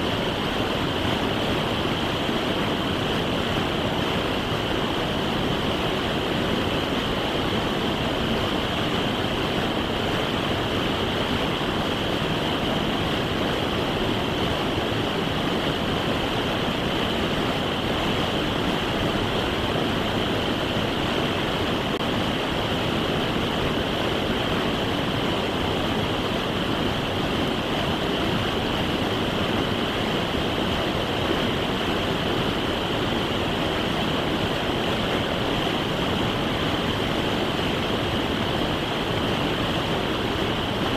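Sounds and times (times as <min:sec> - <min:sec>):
creek rushing over rocks: 0:00.0 - 0:40.9.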